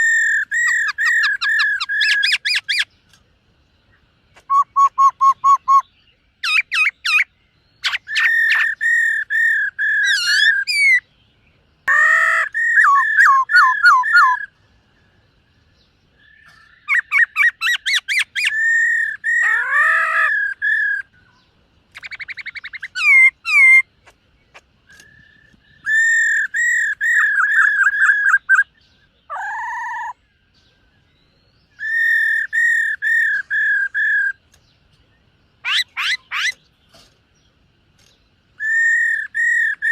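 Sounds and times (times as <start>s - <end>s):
bird singing whistled notes: 0.0s - 3.2s, 3.8s - 39.9s.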